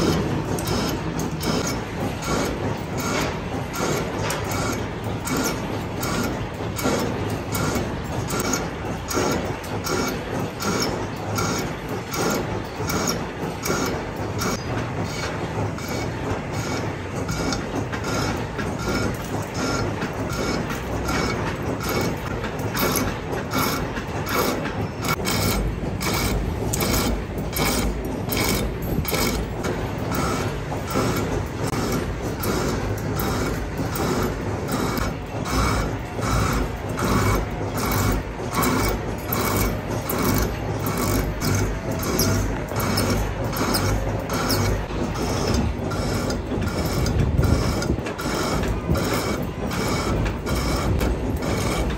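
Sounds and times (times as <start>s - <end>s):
machine tool clattering: 0.0s - 51.9s.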